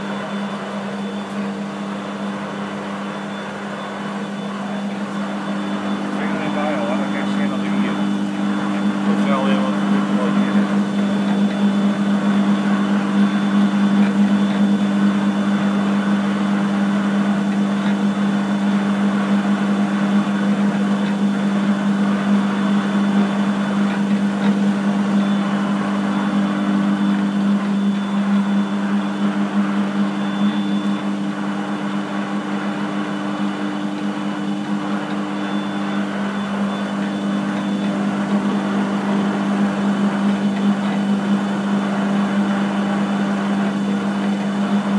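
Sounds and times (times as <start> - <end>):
lathe motor humming: 0.0 - 44.9.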